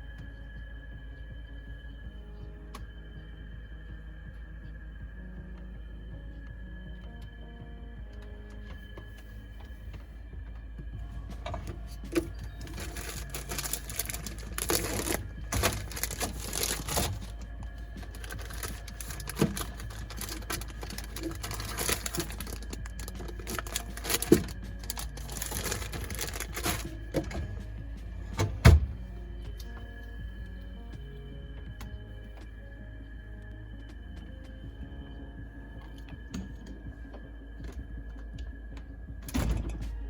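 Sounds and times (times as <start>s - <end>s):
background music low tones: 0.0s - 40.0s.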